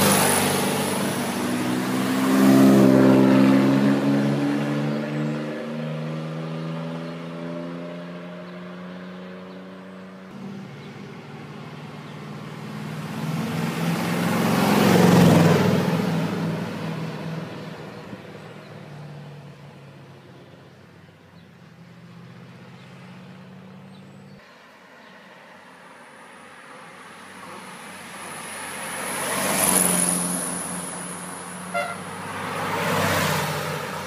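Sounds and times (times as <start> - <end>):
sports car engines passing: 0.0 - 34.0.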